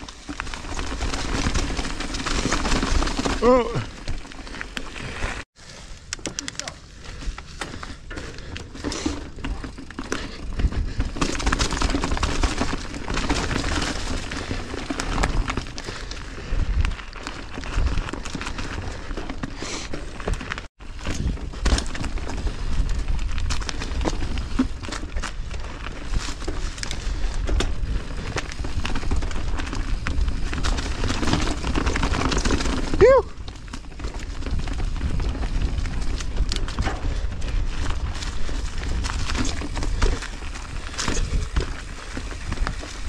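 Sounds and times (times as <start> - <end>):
bike rattling: 0.0 - 43.0.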